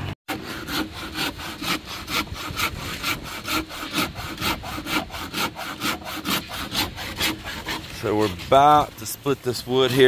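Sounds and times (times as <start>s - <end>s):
hand saw cutting wood: 0.3s - 10.0s.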